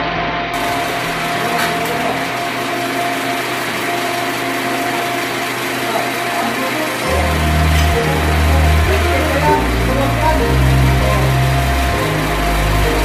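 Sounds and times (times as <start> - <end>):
power tool or engine running: 0.6 - 13.0.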